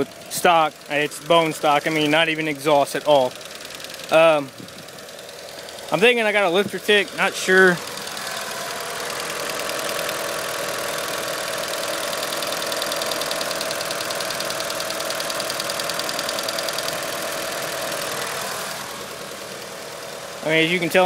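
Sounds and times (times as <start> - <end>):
car engine idling: 0.0 - 21.0
rapid engine ticking: 0.0 - 21.0.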